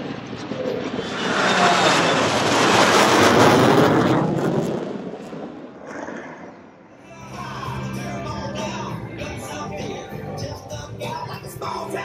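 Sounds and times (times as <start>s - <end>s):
jets roaring overhead: 0.0s - 11.0s.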